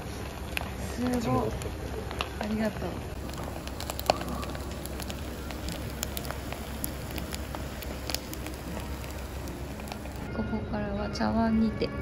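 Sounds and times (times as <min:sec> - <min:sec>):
food crackling and sizzling in clay pot: 0:00.0 - 0:10.4.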